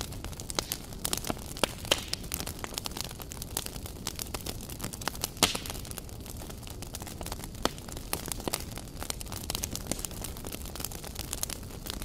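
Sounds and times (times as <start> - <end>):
wood embers crackling and popping: 0.0 - 12.0.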